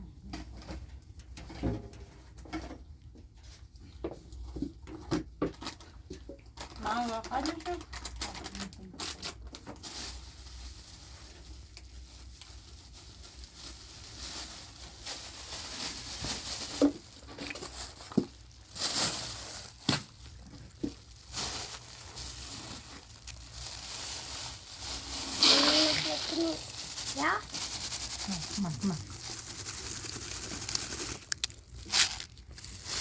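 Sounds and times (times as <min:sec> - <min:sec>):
rustling handling noise: 0:00.4 - 0:33.0.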